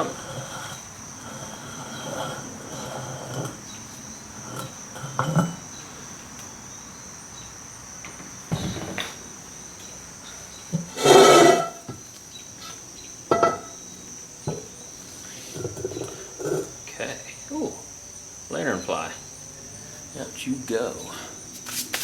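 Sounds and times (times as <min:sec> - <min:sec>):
insect chirring: 0:00.0 - 0:22.0.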